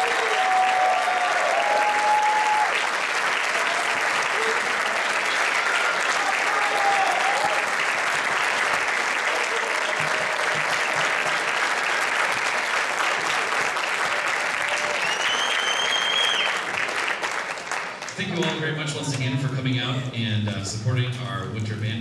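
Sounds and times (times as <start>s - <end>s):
audience applauding: 0.0s - 20.1s.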